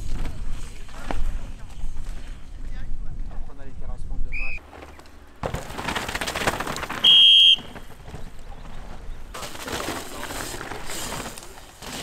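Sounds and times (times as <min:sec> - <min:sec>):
bike tyres crunching on dirt: 0:00.0 - 0:02.8, 0:04.6 - 0:12.0
bikes clattering over bumps: 0:00.0 - 0:03.4, 0:04.6 - 0:12.0.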